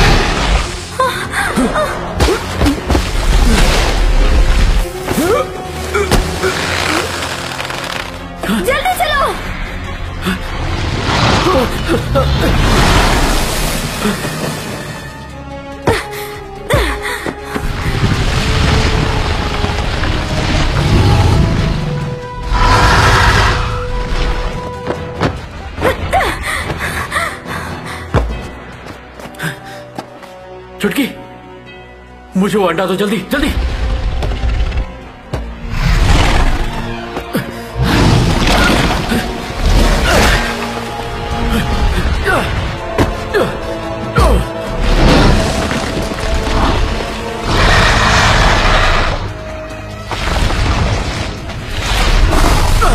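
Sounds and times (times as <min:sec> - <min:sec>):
background music: 0:00.0 - 0:52.9.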